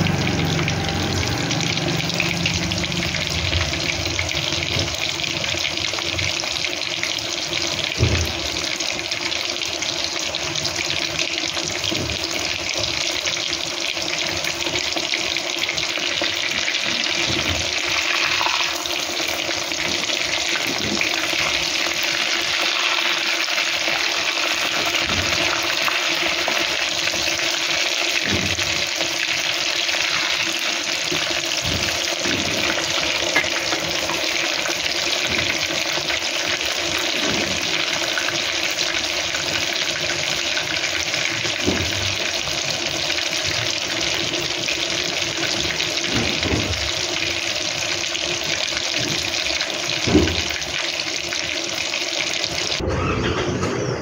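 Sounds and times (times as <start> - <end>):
cabbage rolls frying in oil: 0.0 - 53.2.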